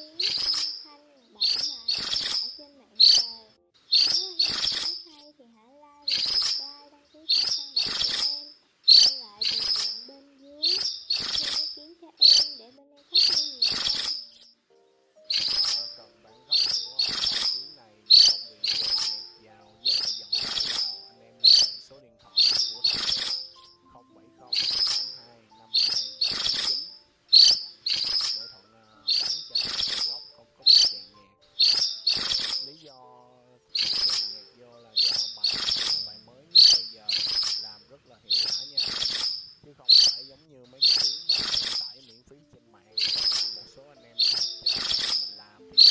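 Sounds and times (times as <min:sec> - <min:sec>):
bird giving sharp high calls: 0:00.0 - 0:14.5, 0:15.2 - 0:32.9, 0:33.5 - 0:42.1, 0:42.7 - 0:45.9.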